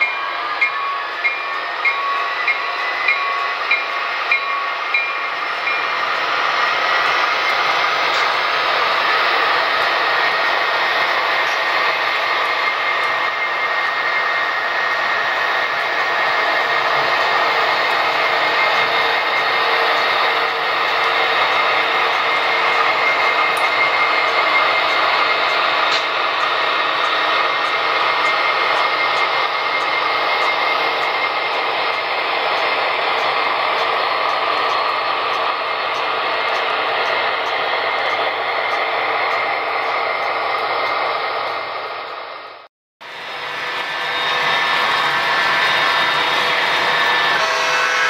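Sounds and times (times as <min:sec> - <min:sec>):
model locomotive diesel engine sound: 0:00.0 - 0:48.0.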